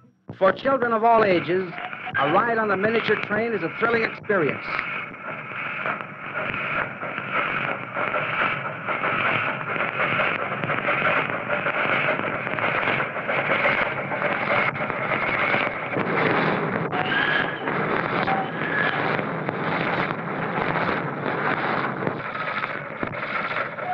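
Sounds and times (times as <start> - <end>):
steam locomotive chuffing: 0.4 - 23.9.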